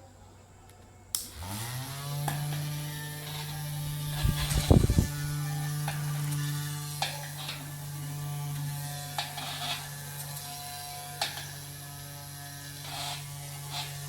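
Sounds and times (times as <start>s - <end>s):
small motor buzzing: 1.2s - 14.0s.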